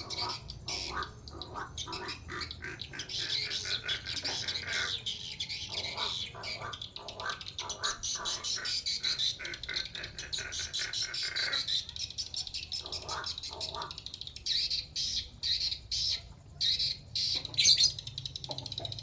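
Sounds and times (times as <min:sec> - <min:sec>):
crow squawking: 0:00.0 - 0:19.0.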